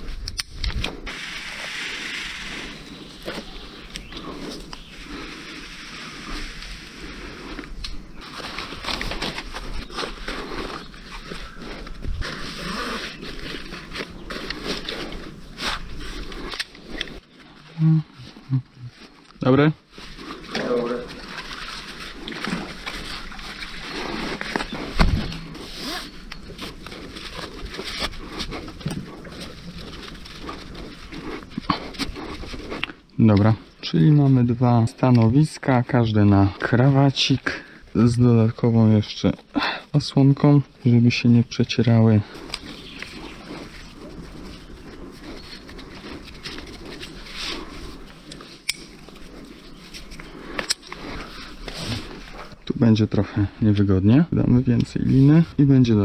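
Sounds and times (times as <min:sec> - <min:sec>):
rope and slings rustling: 0:00.0 - 0:39.4, 0:40.2 - 0:53.1.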